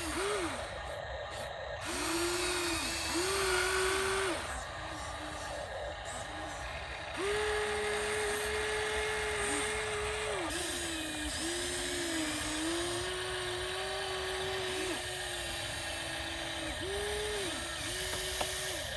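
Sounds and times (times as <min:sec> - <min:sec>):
small electric motor whining: 0:00.0 - 0:18.9.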